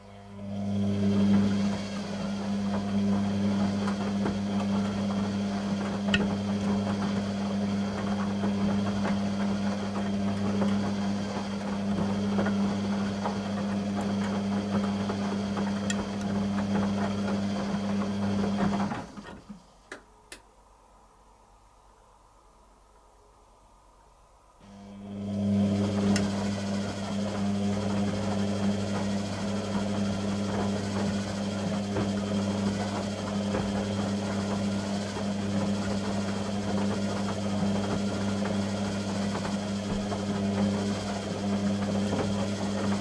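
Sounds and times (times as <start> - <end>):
washing machine humming: 0.0 - 21.2, 24.6 - 43.0.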